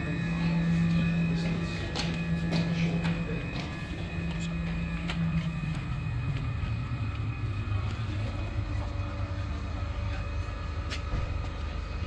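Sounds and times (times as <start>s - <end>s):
higher hum: 0.0s - 12.0s
ship engines droning: 0.0s - 12.0s.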